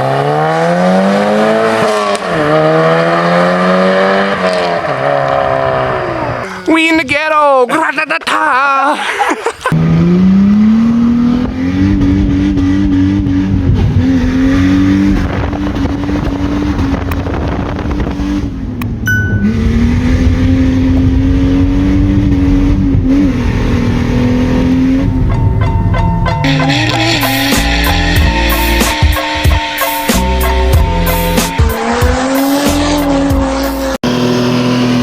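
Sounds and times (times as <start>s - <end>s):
car engine revving: 0.0s - 6.6s, 9.7s - 35.0s.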